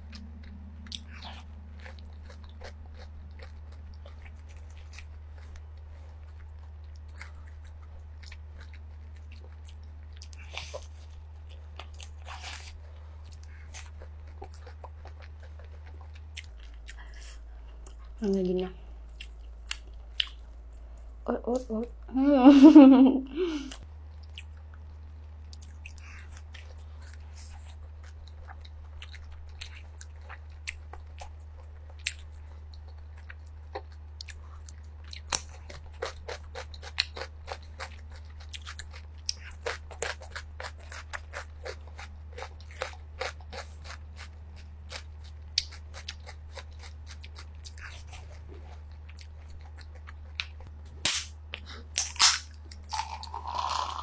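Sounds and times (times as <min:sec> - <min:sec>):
crunching and chewing food: 0:00.0 - 0:21.6, 0:23.7 - 0:54.0
steady low hum: 0:00.0 - 0:54.0.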